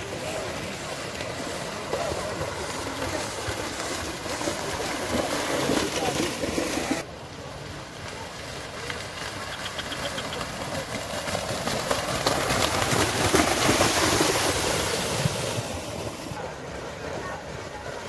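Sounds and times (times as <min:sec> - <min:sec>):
bulls splashing through mud: 0:00.0 - 0:18.0.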